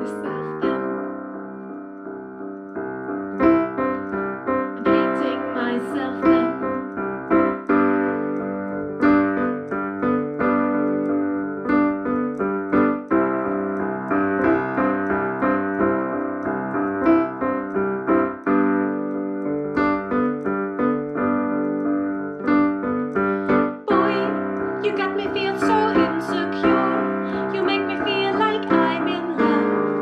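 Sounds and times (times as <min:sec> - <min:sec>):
solo piano chords: 0:00.0 - 0:30.0.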